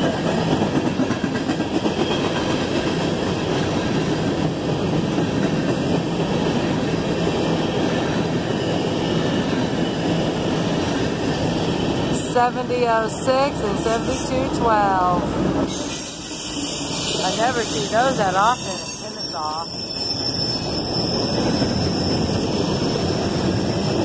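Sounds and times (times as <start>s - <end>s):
freight train wheel rumble: 0.0s - 24.0s.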